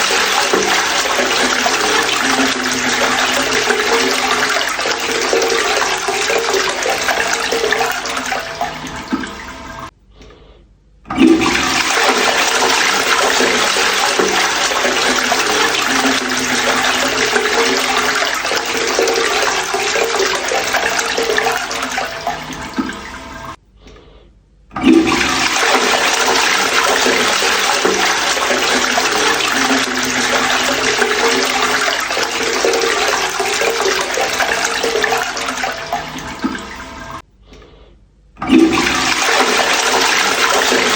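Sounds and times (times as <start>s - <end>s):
toilet flushing: 0.0s - 9.9s, 11.1s - 23.6s, 24.7s - 37.2s, 38.4s - 40.9s.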